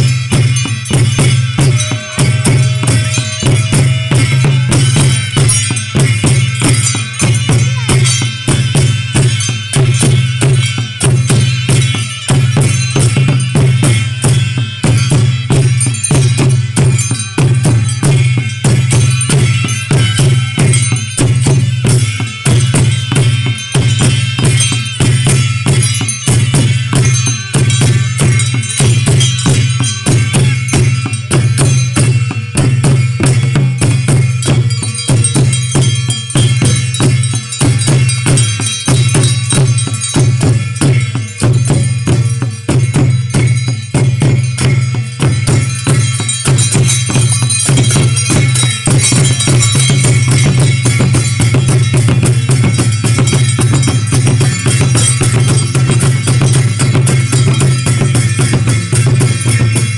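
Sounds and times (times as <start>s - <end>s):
barrel drums beaten in fast rhythm: 0.0s - 59.9s
bright metallic shimmer: 0.0s - 59.9s.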